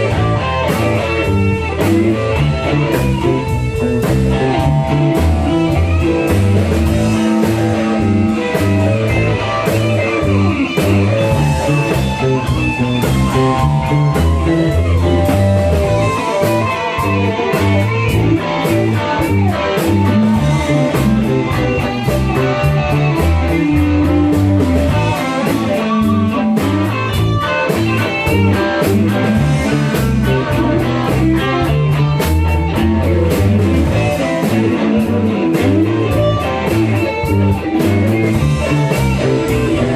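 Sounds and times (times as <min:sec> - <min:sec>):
blues-rock guitar music: 0:00.0 - 0:39.9.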